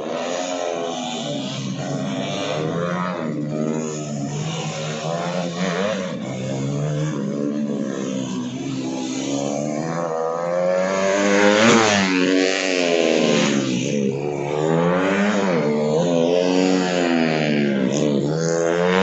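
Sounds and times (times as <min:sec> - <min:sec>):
motorcycle passing close: 0:00.0 - 0:19.0
small motorcycles revving: 0:00.0 - 0:19.0.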